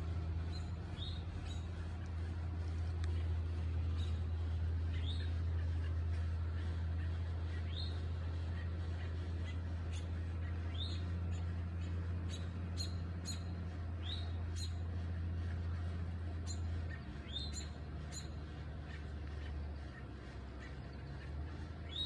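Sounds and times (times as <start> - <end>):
low hum: 0.0 - 22.0
small birds chirping: 0.0 - 22.0.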